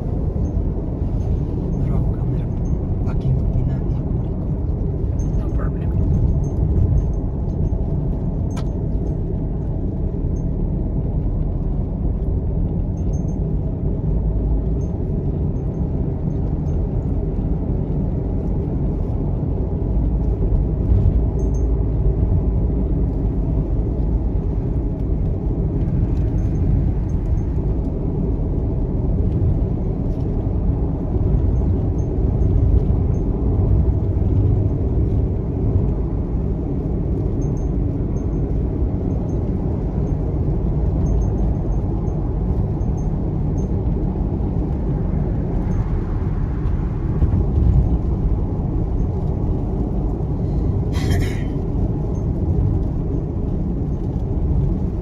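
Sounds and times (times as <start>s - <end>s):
car cabin road rumble: 0.0s - 55.0s.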